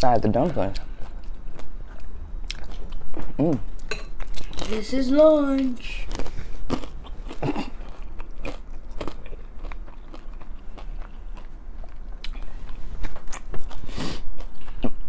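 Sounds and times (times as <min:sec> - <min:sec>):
chewing and biting food: 0:00.4 - 0:03.6, 0:06.0 - 0:15.0.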